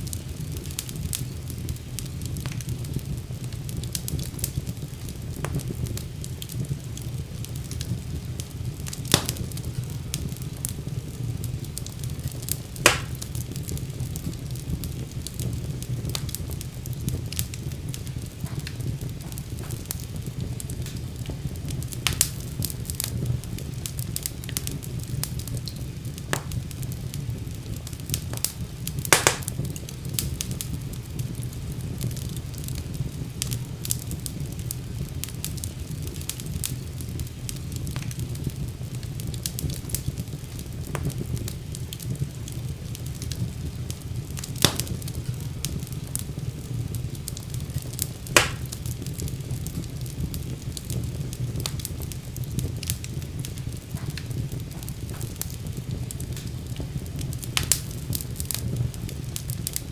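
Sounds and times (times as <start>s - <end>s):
fire crackling in fireplace: 0.0s - 59.9s.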